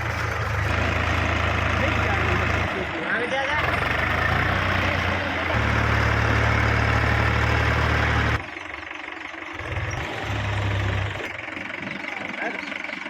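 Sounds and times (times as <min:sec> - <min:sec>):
diesel engine revving under load: 0:00.0 - 0:13.0.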